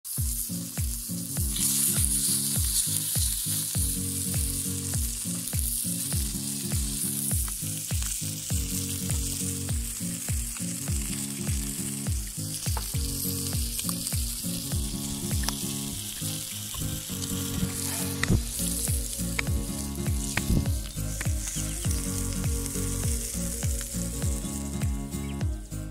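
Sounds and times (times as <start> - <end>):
background music with beat: 0.1 - 25.9
meat sizzling: 0.1 - 25.9.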